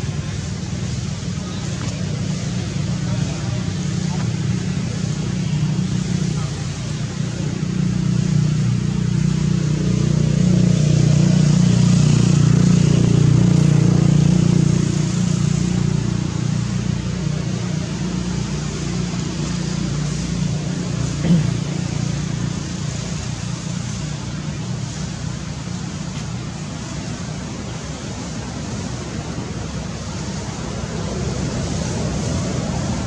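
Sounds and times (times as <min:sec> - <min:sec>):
engine low drone: 0:00.0 - 0:33.0.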